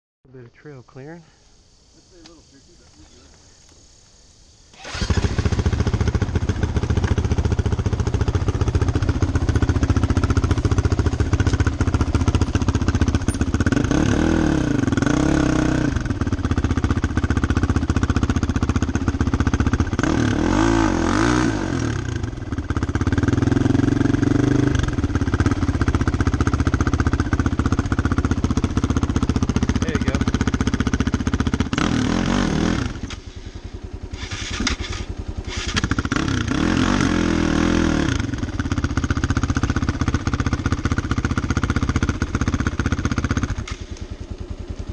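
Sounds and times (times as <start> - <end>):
engine revving: 4.7 - 44.1
motorcycle engines running: 4.8 - 44.9.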